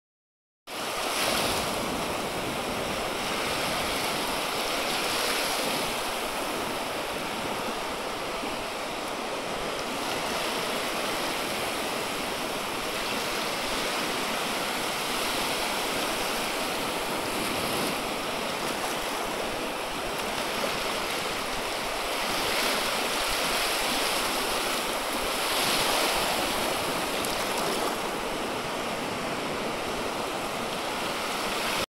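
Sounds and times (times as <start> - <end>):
waves breaking: 0.7 - 31.8.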